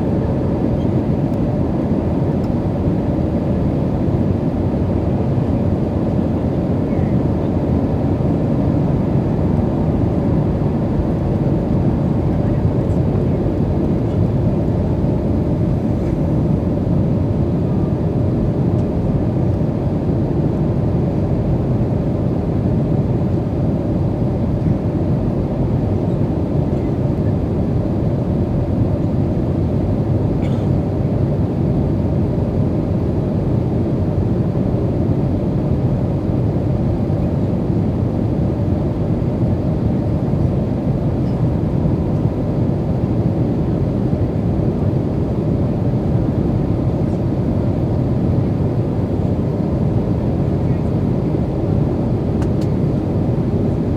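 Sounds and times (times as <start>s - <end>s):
aircraft cabin rumble: 0.0s - 53.9s.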